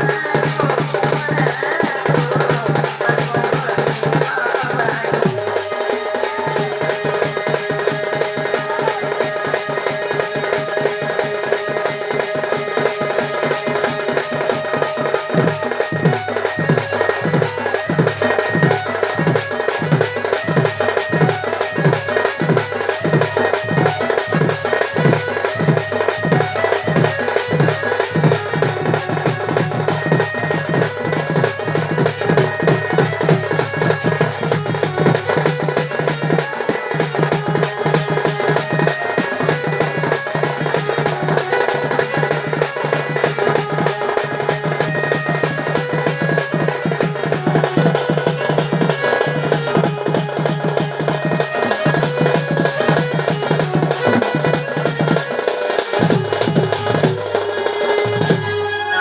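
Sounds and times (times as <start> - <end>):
fast folk drumming: 0.0 - 59.0
held pitched melody: 0.0 - 59.0.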